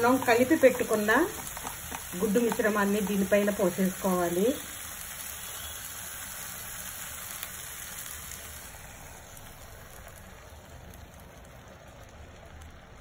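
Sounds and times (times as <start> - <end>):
egg sizzling in a pan: 0.0 - 13.0.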